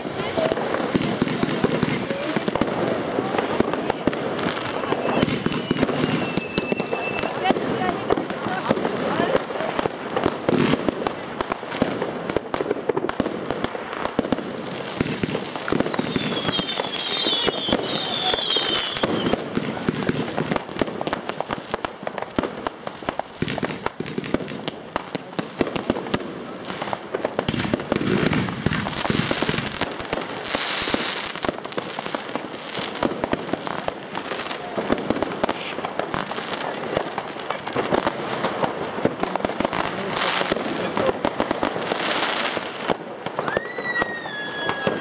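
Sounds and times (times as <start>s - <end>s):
whistling firework: 0.0s - 8.2s, 8.9s - 45.0s
fireworks crackling: 0.0s - 45.0s.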